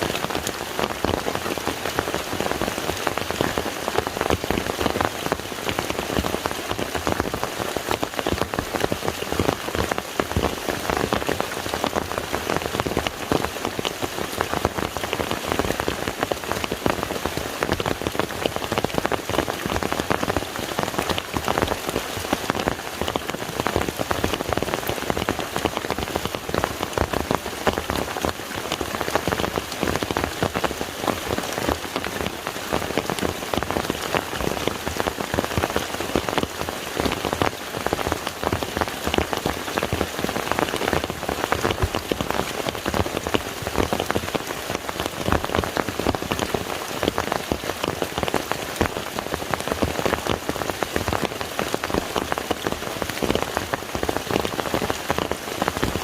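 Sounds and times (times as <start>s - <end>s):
rain falling on lake: 0.0s - 56.0s.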